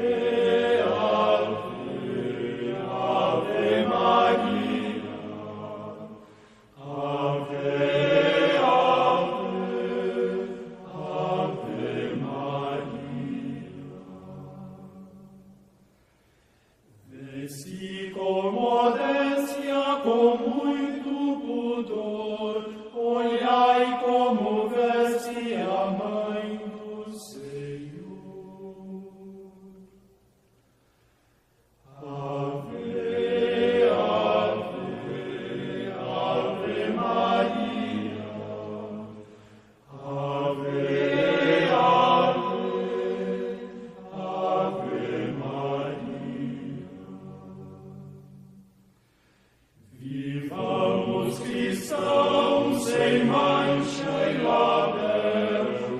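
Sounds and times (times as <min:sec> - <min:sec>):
voices singing a hymn: 0:00.0 - 0:30.2, 0:31.7 - 0:55.9.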